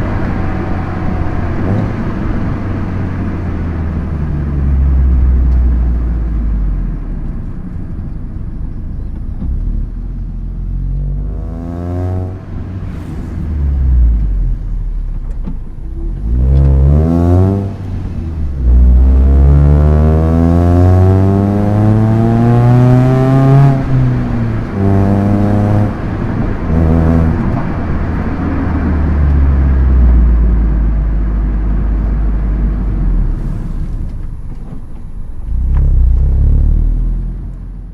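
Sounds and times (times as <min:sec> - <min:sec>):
car engine revving: 0:00.0 - 0:07.4, 0:09.0 - 0:37.9.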